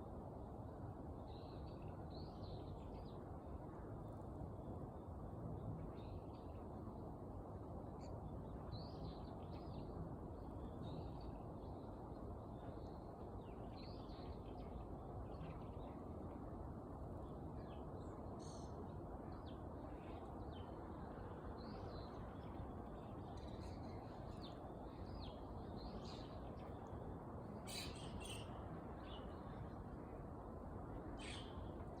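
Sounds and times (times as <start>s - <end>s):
low background noise: 0.0s - 32.0s.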